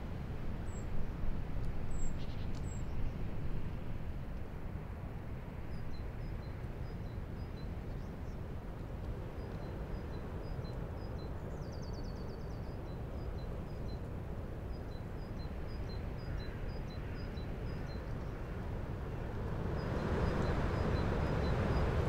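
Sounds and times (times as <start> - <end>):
gusty wind through branches: 0.0 - 22.0.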